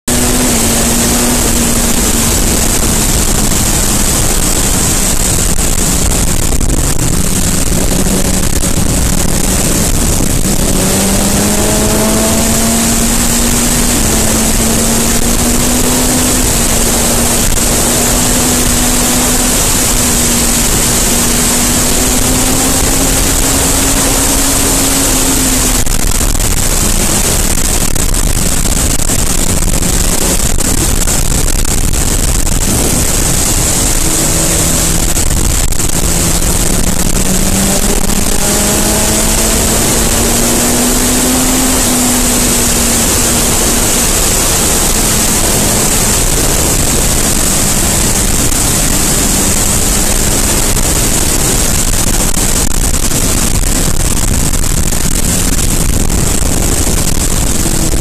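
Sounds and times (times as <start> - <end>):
motorcycle engine running: 0.0 - 58.0
wind rushing on microphone: 0.1 - 58.0.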